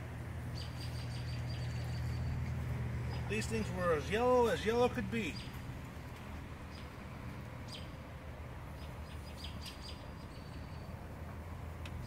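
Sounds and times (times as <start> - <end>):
low outdoor rumble: 0.0 - 12.0
small birds chirping: 0.4 - 12.0.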